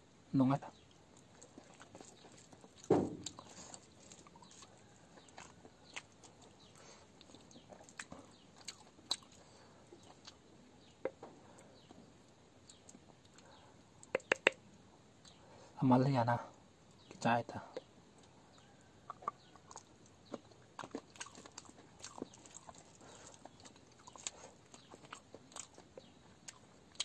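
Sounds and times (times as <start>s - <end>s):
chewing and lip smacks: 0.8s - 15.4s, 17.8s - 27.0s.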